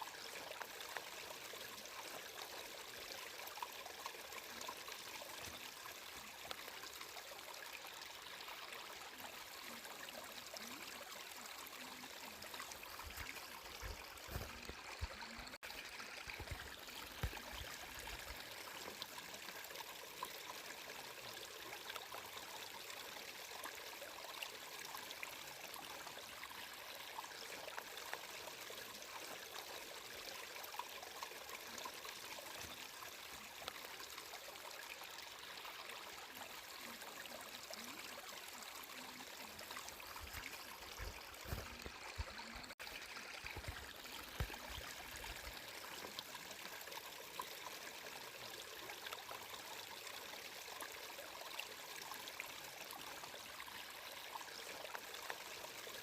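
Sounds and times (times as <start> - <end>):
water flowing and trickling: 0.0 - 56.0.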